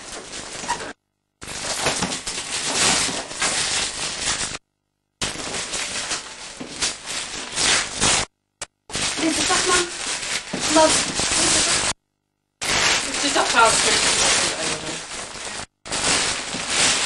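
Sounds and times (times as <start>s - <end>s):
wrapping paper crinkling and tearing: 0.0s - 4.6s, 5.2s - 8.3s, 8.9s - 12.0s, 12.6s - 17.0s.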